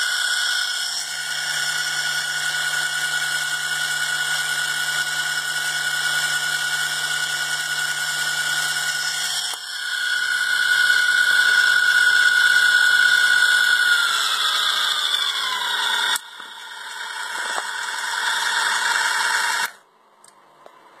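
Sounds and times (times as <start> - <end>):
small motor whining: 0.0 - 19.8.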